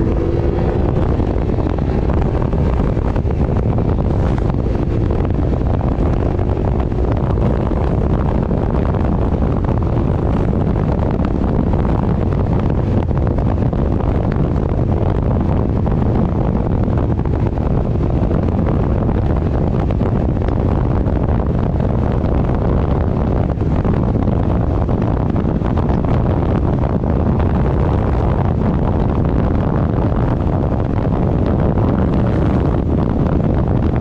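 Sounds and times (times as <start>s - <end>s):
motorcycle engine: 0.0s - 34.0s
wind buffeting microphone: 0.0s - 34.0s.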